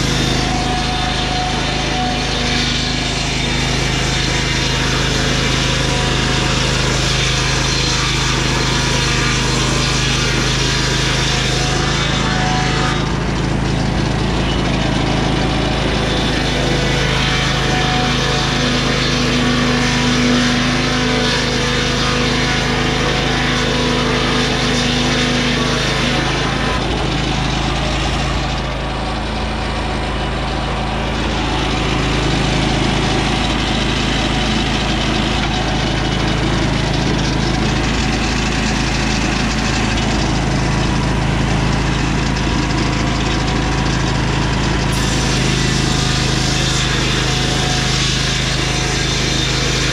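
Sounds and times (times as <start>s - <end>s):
circular saw blade cutting log: 0.0s - 49.9s
sawmill engine running: 0.0s - 49.9s.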